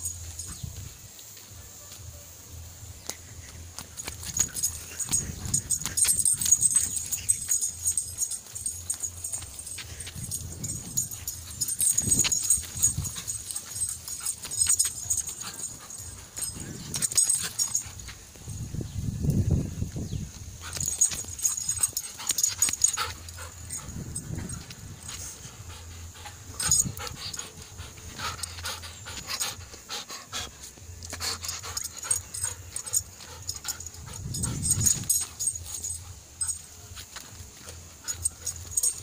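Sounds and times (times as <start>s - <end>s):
dog panting: 3.3s - 18.5s, 20.5s - 39.0s.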